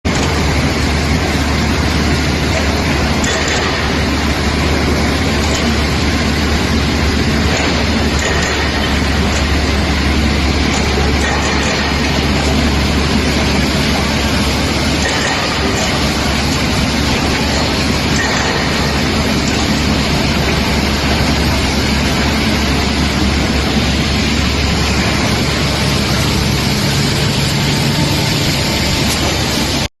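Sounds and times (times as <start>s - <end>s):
shotcrete machine drone and hiss: 0.0s - 29.9s
higher-pitched hum: 0.1s - 29.9s.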